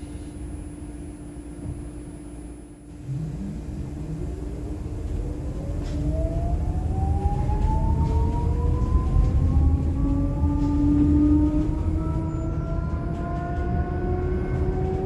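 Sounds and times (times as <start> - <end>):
bus low rumble: 0.0 - 15.0.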